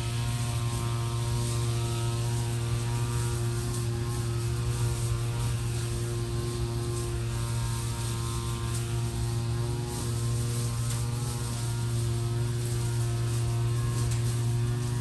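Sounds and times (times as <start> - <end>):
constant hiss: 0.0 - 15.0
electrical hum with overtones: 0.0 - 15.0.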